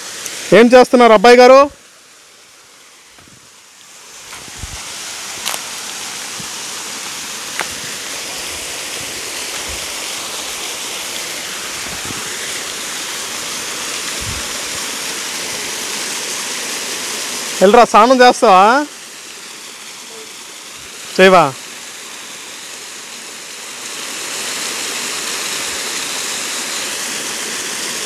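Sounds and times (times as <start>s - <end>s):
waterfall rushing over rocks: 0.0s - 28.0s.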